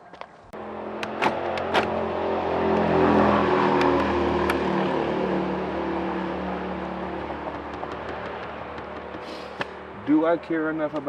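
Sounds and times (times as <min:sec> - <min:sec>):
car engine passing by: 0:00.6 - 0:10.3.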